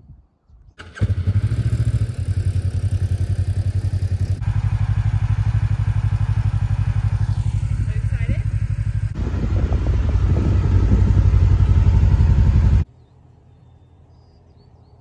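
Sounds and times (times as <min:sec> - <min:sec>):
vehicle engine running: 0:00.8 - 0:12.9.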